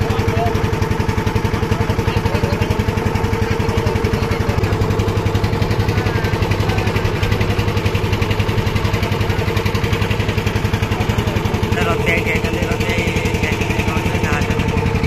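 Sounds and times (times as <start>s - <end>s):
boat engine thudding: 0.0s - 15.0s.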